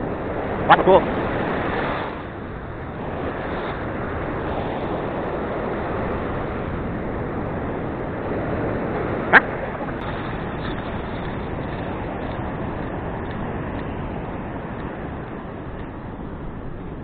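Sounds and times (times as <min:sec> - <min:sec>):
ocean surf: 0:00.0 - 0:17.0
wind on microphone: 0:00.0 - 0:17.0.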